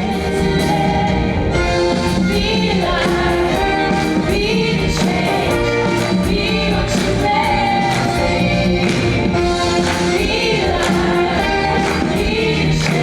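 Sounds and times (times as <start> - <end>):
band with steady beat: 0.0 - 13.0
choir singing gospel song: 0.0 - 13.0.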